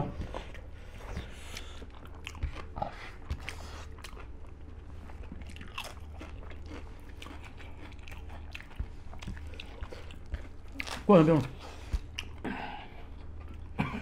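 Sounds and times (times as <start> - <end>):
low steady hum: 0.0 - 14.0
chewing and crunching food: 0.1 - 14.0.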